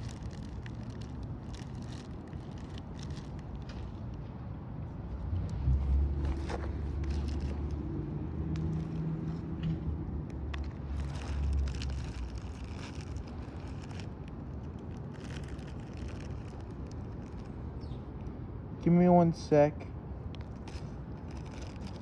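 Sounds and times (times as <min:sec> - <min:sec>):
small rustles and clicks: 0:00.0 - 0:04.4, 0:05.4 - 0:07.9, 0:08.5 - 0:18.3, 0:20.2 - 0:22.0
low engine-like rumble: 0:00.0 - 0:22.0.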